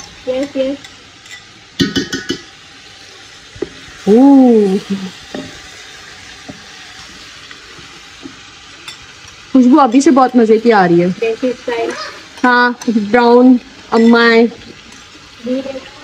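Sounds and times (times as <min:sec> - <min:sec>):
food sizzling in pot: 0:00.0 - 0:16.0.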